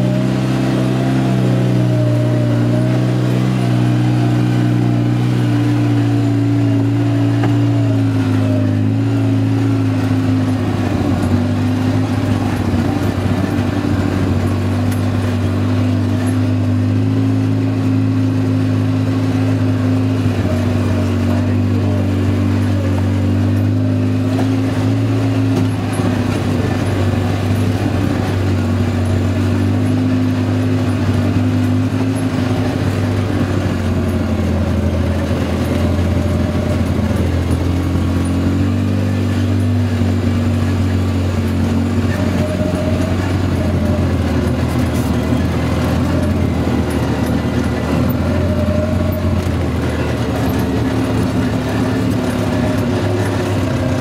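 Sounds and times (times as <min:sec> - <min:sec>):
ride noise: 0:00.0 - 0:54.0
vehicle engine running: 0:00.0 - 0:54.0.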